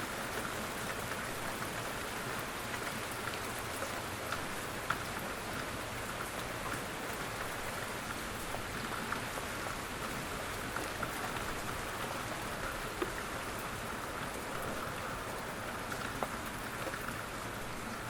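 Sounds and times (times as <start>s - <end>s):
raindrops ticking on a surface: 0.0s - 18.0s
steady rain hiss: 0.0s - 18.0s.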